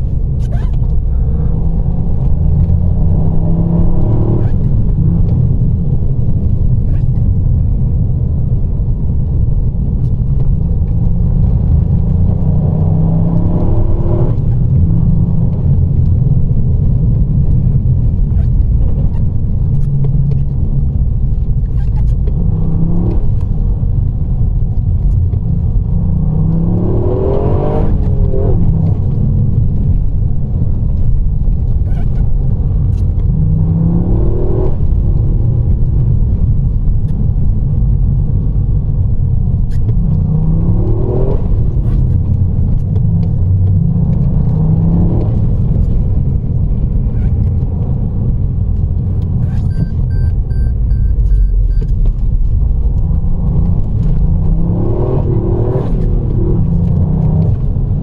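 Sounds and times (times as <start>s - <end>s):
car engine accelerating: 0.0s - 58.0s
road noise: 0.0s - 58.0s.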